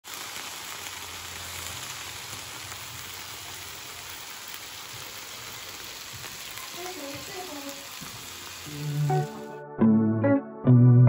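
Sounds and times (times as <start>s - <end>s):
fish and vegetables sizzling on griddle: 0.0s - 9.5s.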